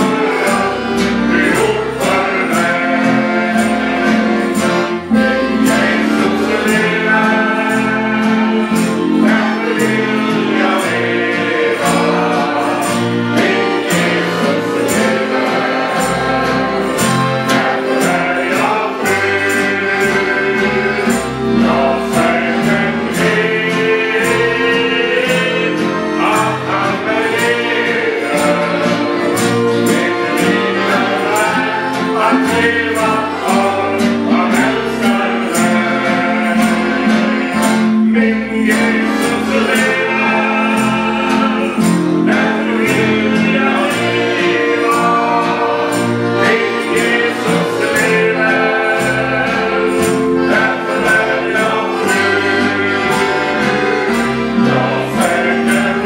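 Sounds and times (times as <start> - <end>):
accordions holding chords: 0.0 - 56.0
group singing gospel in harmony: 0.0 - 56.0
strummed acoustic guitars: 0.0 - 56.0.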